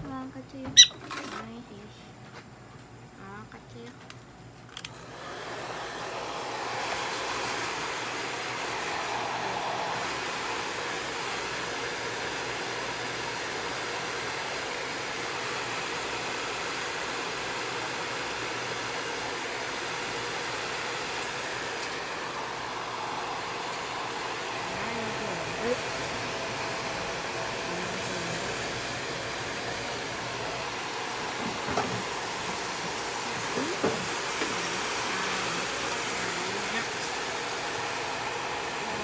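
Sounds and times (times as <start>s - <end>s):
hair dryer blowing: 4.9s - 39.0s.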